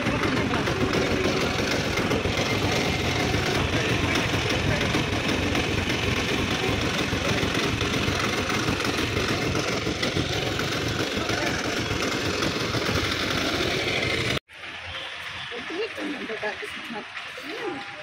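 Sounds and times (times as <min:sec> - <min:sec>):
auto-rickshaw engine idling: 0:00.0 - 0:18.0.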